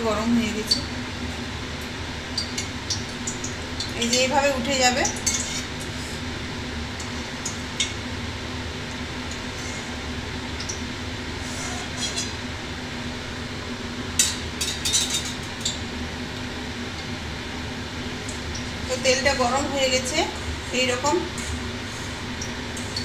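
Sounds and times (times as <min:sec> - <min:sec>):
exhaust fan humming: 0:00.0 - 0:23.0.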